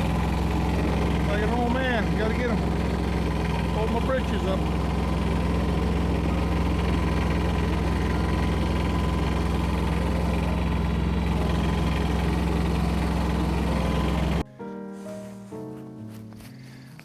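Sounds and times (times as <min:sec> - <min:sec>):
engine idling: 0:00.0 - 0:15.1.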